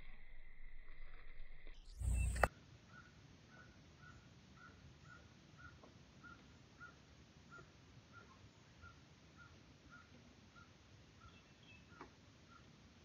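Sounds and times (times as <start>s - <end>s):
bird calling faintly: 0.0s - 12.8s.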